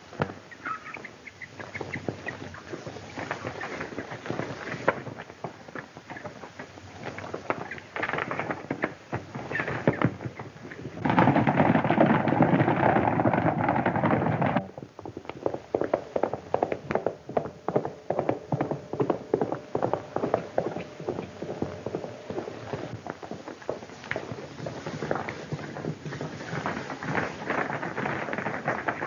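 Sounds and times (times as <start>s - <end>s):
horse hooves clattering: 0.0s - 29.0s.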